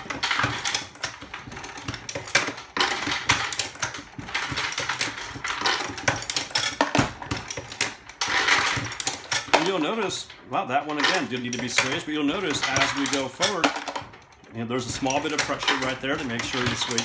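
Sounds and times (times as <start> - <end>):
metallic clicks and clinks: 0.0 - 17.0.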